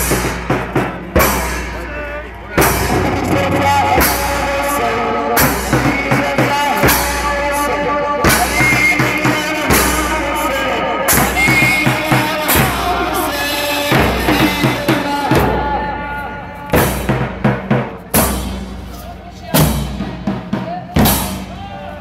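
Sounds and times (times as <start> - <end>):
crowd chanting a lament: 1.2 - 22.0.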